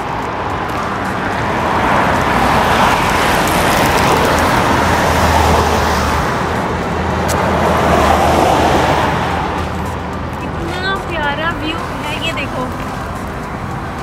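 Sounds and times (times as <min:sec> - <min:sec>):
road and tyre noise: 0:00.0 - 0:14.0.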